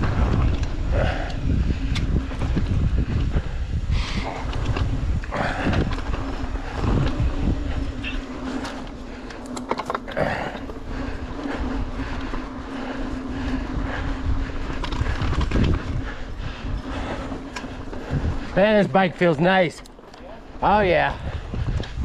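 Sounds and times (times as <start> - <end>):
bike rattling over bumps: 0.0 - 22.0
bike tyre rumble on dirt: 0.0 - 22.0
steady buzz: 0.0 - 22.0
wind buffeting microphone: 0.0 - 22.0.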